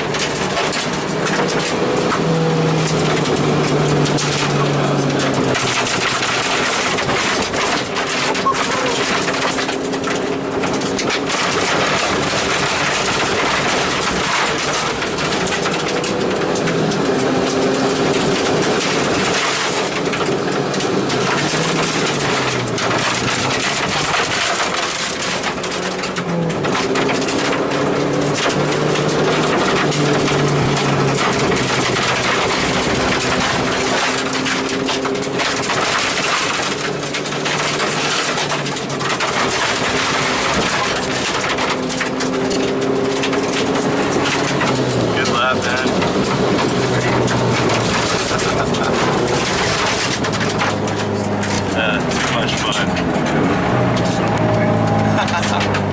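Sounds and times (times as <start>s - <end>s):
car engine changing speed: 0.0s - 55.9s
road and tyre noise: 0.0s - 55.9s.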